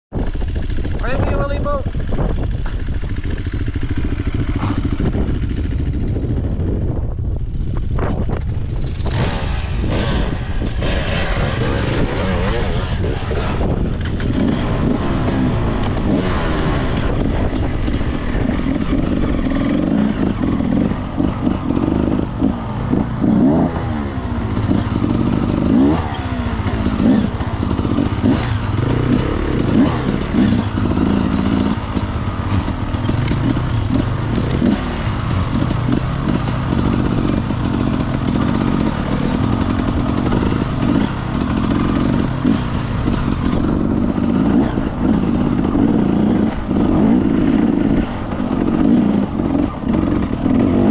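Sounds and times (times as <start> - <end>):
motorcycle engine revving: 0.2 - 50.9.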